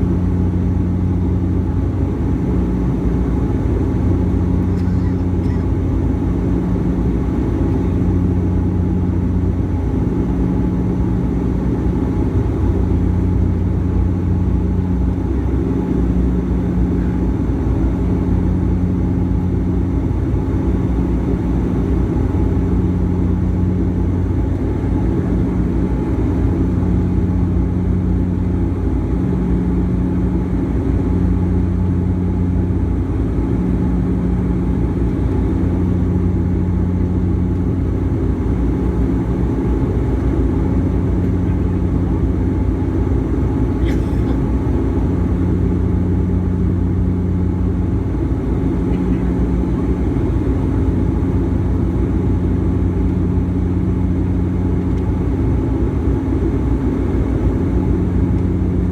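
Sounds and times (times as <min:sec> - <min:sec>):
airliner engine rumble in cabin: 0:00.0 - 0:58.9.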